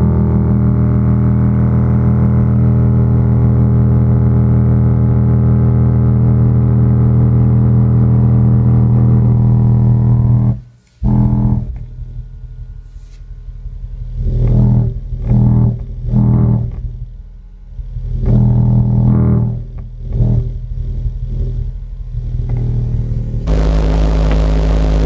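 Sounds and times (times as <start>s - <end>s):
subwoofer low test tone hum: 0.0s - 25.0s.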